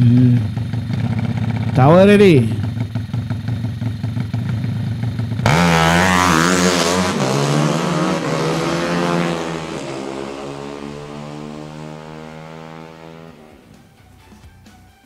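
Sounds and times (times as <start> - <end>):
motorcycle engine revving and accelerating: 0.0 - 13.9.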